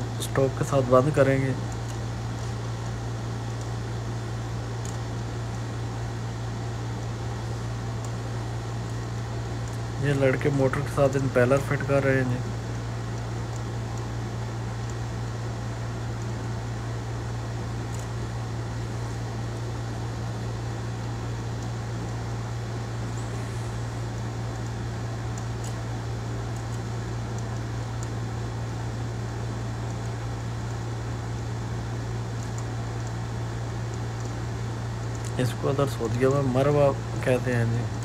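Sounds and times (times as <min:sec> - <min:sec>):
low machinery hum: 0:00.0 - 0:38.0.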